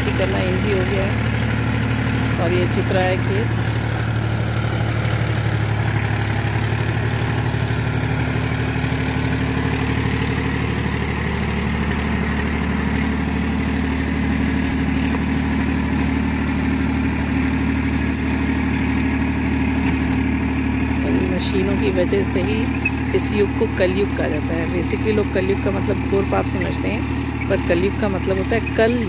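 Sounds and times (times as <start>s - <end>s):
tractor engine under load: 0.0s - 29.0s.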